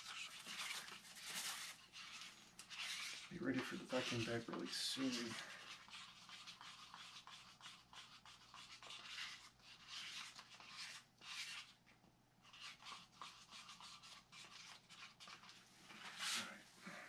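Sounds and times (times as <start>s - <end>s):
scratchy rubbing strokes: 0.0s - 11.8s, 12.4s - 16.7s.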